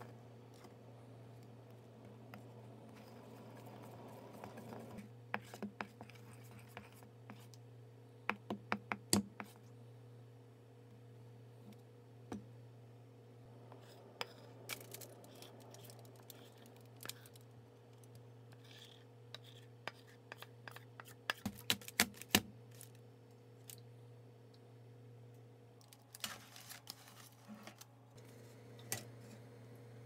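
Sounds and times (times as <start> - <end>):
steady low hum: 0.0 - 21.5, 27.1 - 30.0.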